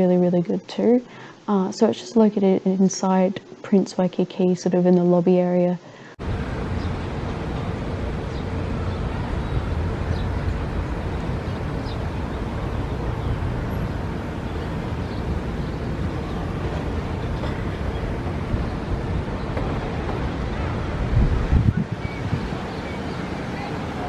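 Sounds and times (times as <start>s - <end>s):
faint steady hum: 0.0s - 24.0s
outdoor rumble and hiss: 0.0s - 24.0s.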